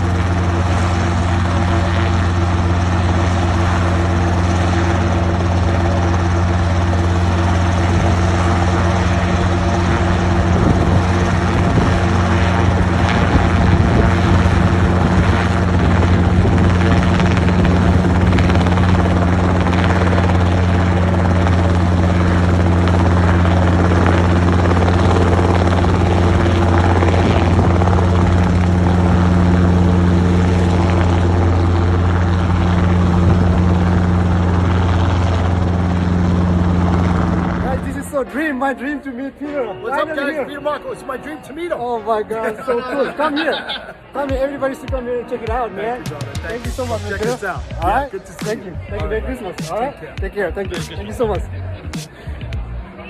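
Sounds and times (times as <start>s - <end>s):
helicopter running: 0.0s - 53.0s.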